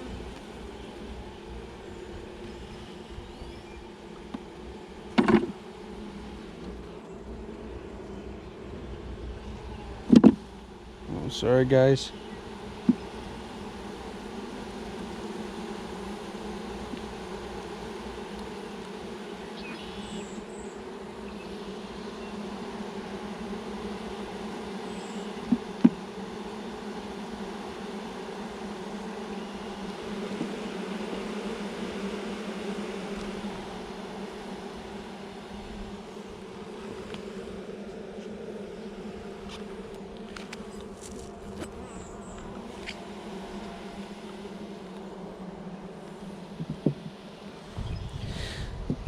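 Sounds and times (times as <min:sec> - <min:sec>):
honeybees buzzing: 0:00.0 - 0:49.0.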